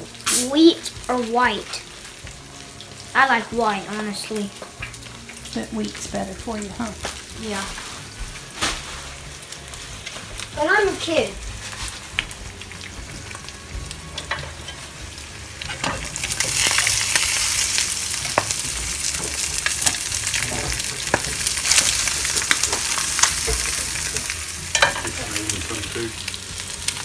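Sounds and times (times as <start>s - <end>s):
crackles and pops: 0.0s - 27.0s
eggs sizzling in a skillet: 0.0s - 27.0s.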